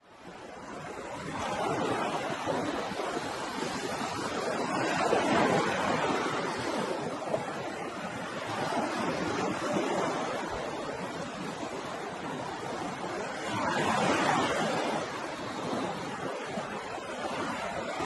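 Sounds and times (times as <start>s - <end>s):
ocean waves washing onto shore: 0.0s - 18.0s.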